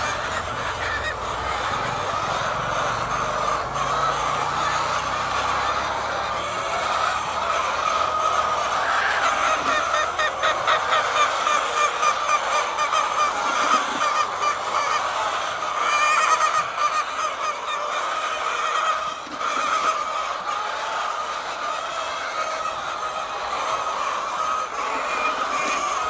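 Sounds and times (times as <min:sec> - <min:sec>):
hens clucking and squawking: 0:00.0 - 0:26.0.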